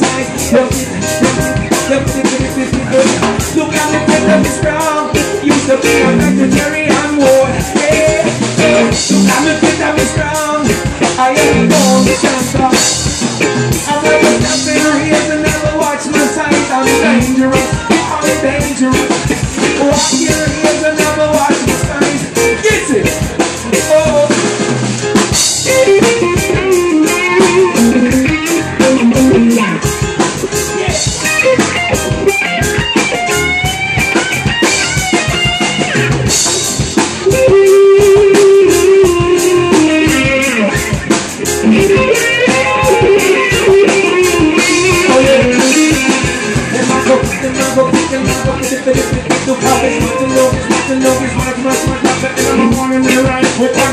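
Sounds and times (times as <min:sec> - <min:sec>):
live reggae band: 0:00.0 - 0:53.9.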